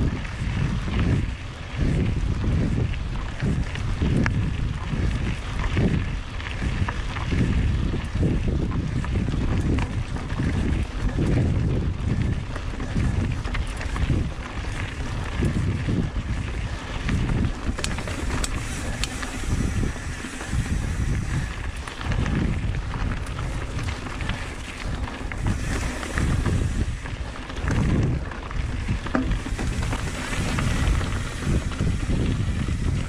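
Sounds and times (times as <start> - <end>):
bike clicks and rattles: 0.0 - 33.0
tyres rolling over rough dirt: 0.0 - 33.0
wind buffeting microphone: 0.0 - 33.0.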